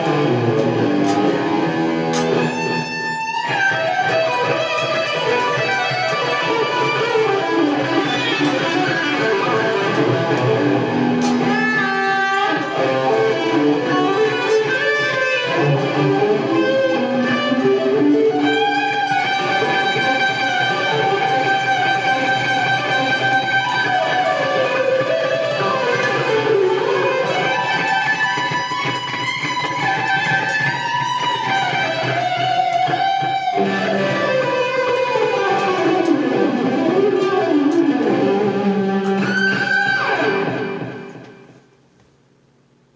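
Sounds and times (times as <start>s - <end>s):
guitar music through speaker: 0.0s - 41.6s.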